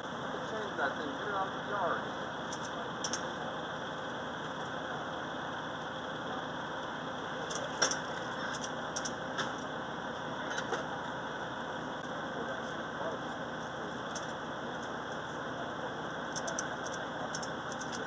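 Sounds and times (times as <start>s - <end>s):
hydraulic rescue tool running: 1.1s - 18.0s.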